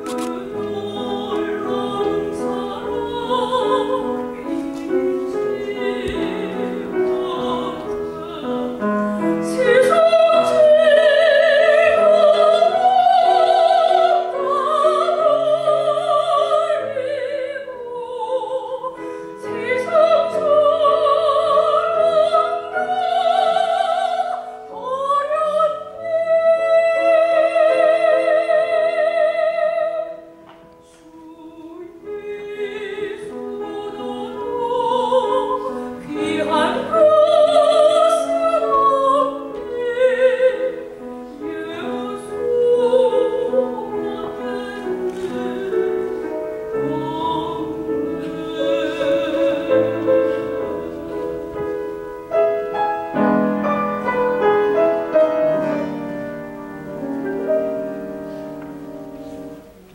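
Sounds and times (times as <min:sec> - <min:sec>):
piano accompaniment: 0:00.0 - 0:59.9
soprano singing operatic hymn: 0:00.0 - 0:59.9.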